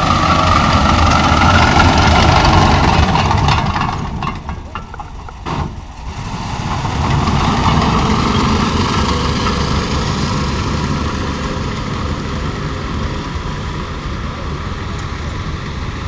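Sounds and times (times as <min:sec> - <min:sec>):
tracked tractor engine: 0:00.0 - 0:16.0.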